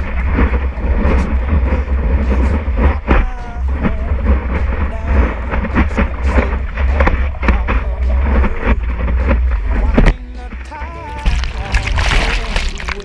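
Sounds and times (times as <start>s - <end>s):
water rushing and splashing: 0.0s - 13.0s
wind rumbling on microphone: 0.0s - 13.0s.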